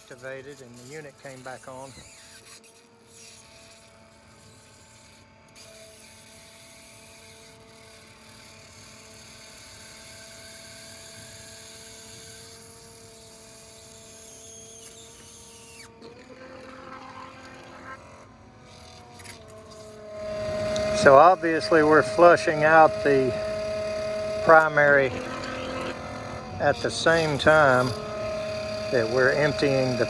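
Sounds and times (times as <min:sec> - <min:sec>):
small pump whining: 0:00.0 - 0:30.0.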